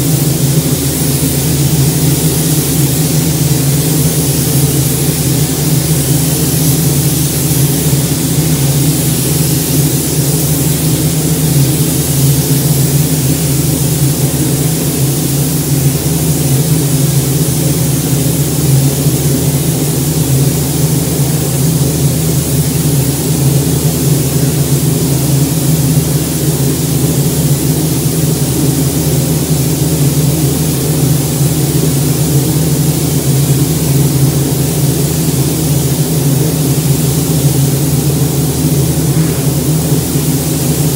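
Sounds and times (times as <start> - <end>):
ventilation hum and air hiss: 0.0 - 40.9.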